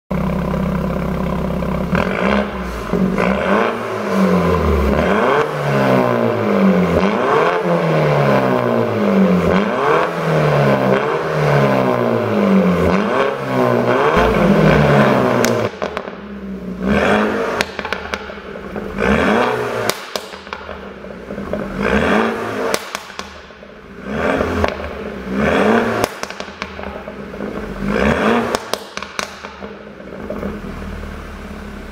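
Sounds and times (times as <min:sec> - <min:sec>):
exhaust popping and crackling: 0:00.1 - 0:31.9
car engine revving: 0:00.2 - 0:31.9.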